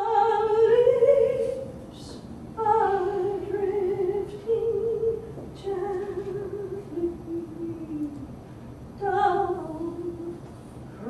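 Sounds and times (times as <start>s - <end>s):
woman singing unaccompanied: 0.0s - 8.3s, 9.0s - 10.5s.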